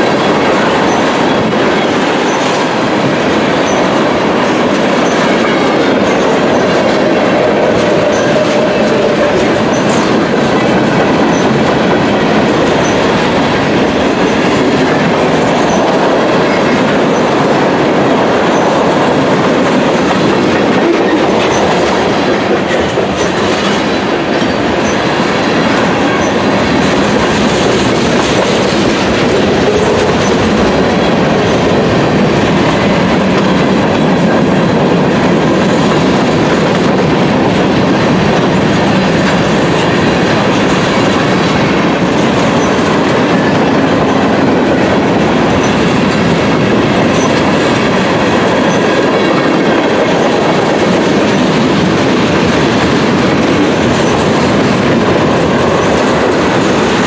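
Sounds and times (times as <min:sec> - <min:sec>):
steel wheels running on rails: 0:00.0 - 0:57.0.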